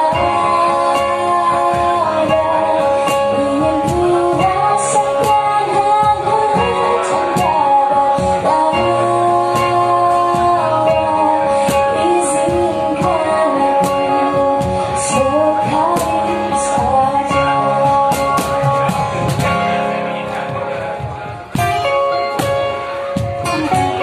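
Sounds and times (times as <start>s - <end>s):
woman singing: 0.0s - 19.2s
strummed acoustic guitars: 0.0s - 24.0s.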